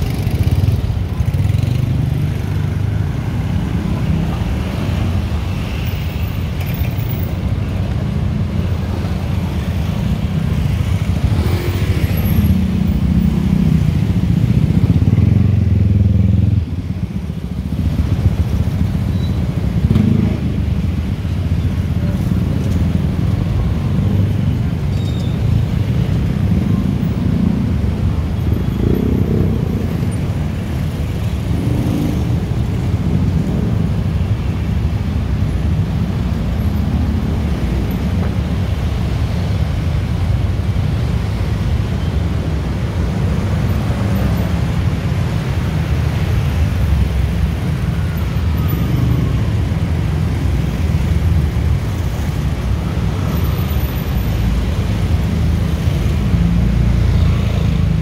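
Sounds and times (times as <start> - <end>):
cars and motorcycles passing: 0.0 - 58.0.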